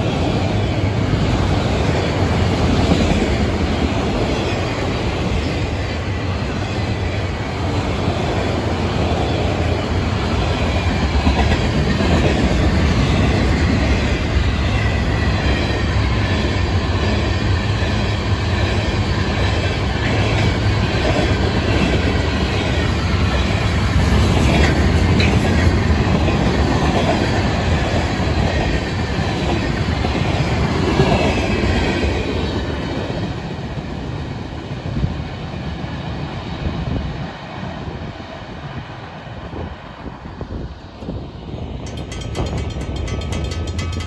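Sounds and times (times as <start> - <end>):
freight train wheels clattering: 0.0 - 33.4, 41.1 - 44.0.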